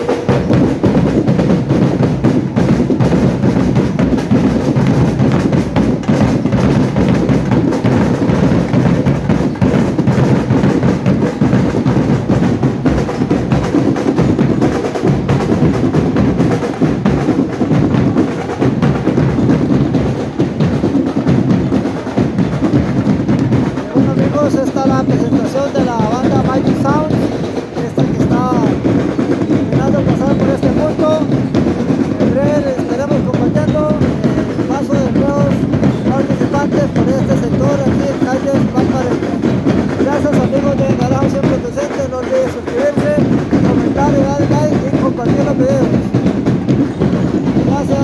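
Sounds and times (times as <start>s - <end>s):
bass drums: 0.0s - 48.0s
snare drums: 0.0s - 48.0s.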